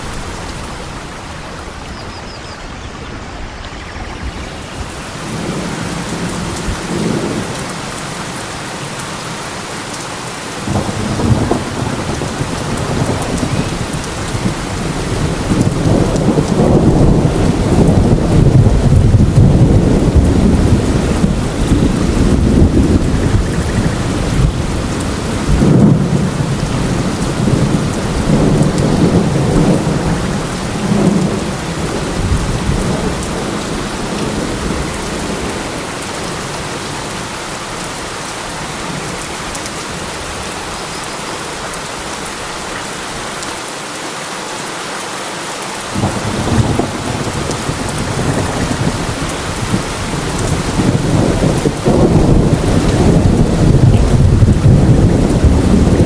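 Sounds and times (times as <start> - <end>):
thunder rumbling: 0.0 - 8.8, 10.5 - 37.2, 45.9 - 56.0
heavy rain: 0.0 - 56.0.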